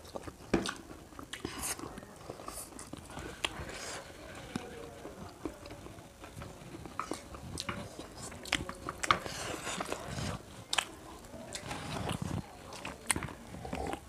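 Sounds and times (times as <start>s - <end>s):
chewing and slurping noodles: 0.0s - 14.0s.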